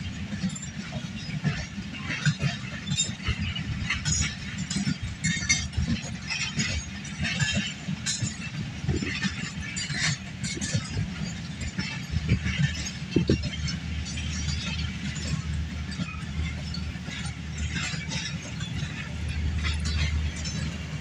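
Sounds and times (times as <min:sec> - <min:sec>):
metallic clinks and clanks: 0:00.0 - 0:21.0
train coaches rumbling: 0:00.0 - 0:21.0.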